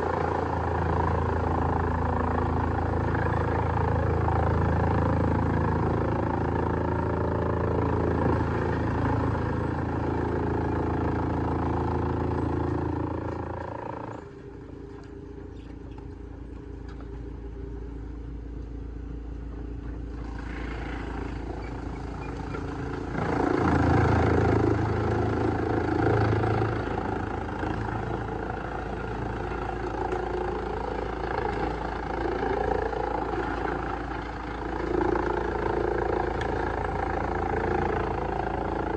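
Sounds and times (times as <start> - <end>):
wood shredder engine drone: 0.0 - 38.9.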